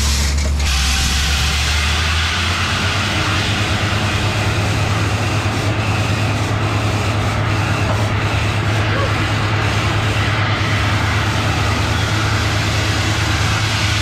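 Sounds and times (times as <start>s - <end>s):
low engine drone: 0.0s - 14.0s
rough mechanical drilling noise: 0.0s - 14.0s.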